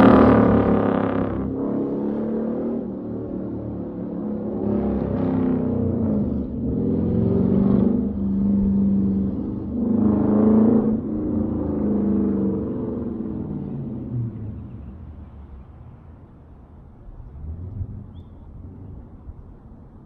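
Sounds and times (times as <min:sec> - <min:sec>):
car exhaust rumbling and revving: 0:00.0 - 0:20.0.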